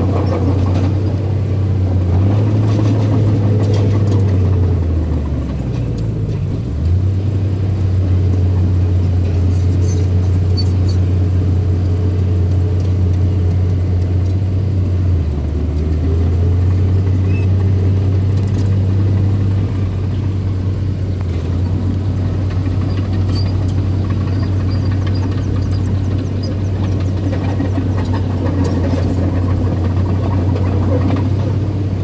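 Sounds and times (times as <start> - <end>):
bulldozer engine humming: 0.0 - 32.0.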